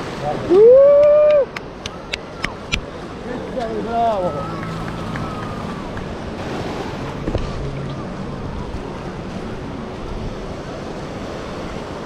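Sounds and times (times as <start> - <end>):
surf on beach: 0.0 - 12.0.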